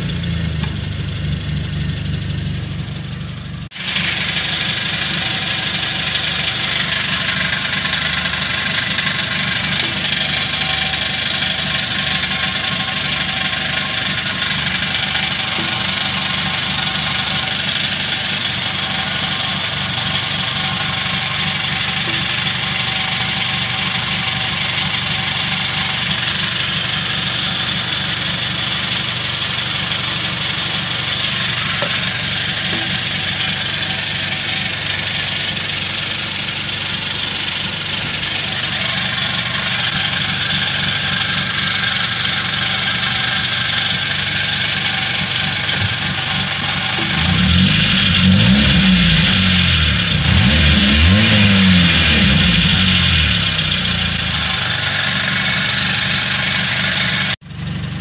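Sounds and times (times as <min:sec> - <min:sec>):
car engine revving: 0:00.0 - 0:57.4
car engine idling: 0:00.0 - 0:58.0.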